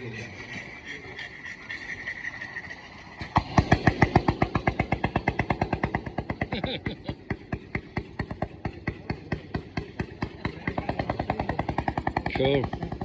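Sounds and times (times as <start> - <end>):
engine exhaust beats: 0.0 - 13.0.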